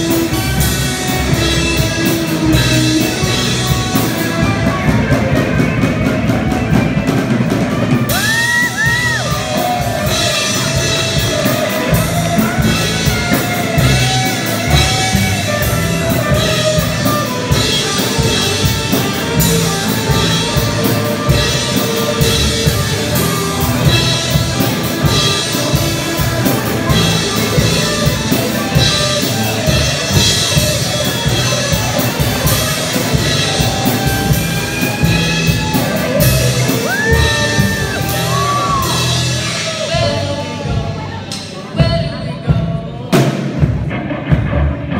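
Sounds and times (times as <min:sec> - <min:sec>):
distorted electric guitars: 0:00.0 - 0:42.0
bending lead guitar lines: 0:00.0 - 0:42.2
drum kit beat: 0:00.0 - 0:44.9.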